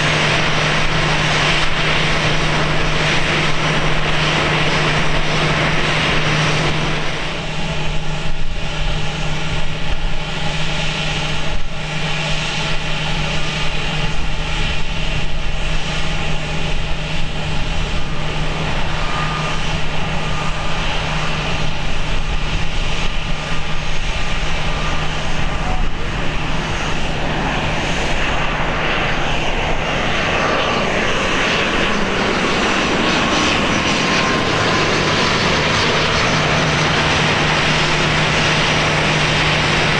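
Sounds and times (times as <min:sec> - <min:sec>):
airliner engines droning: 0:00.0 - 0:39.9
wind rumble on microphone: 0:00.0 - 0:39.9.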